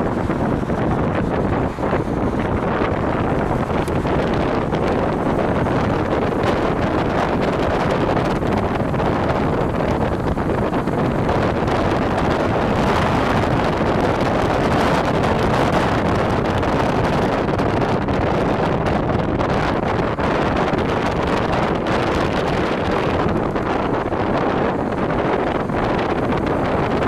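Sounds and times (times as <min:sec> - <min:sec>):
road and wind noise: 0:00.0 - 0:27.0
wind buffeting microphone: 0:00.0 - 0:27.0.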